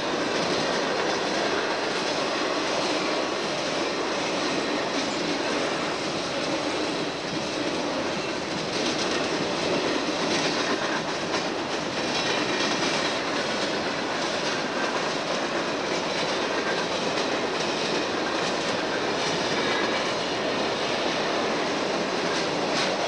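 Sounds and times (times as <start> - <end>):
clacks over rail joints: 0.0 - 23.0
steel wheels running on rails: 0.0 - 23.0.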